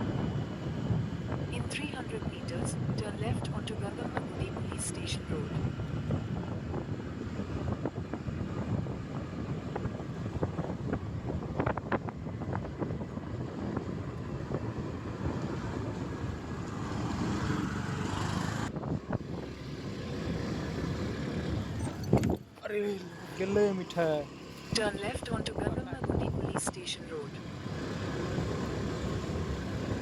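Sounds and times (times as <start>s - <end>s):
wind buffeting microphone: 0.0s - 22.6s, 24.7s - 30.0s
road noise: 0.0s - 30.0s.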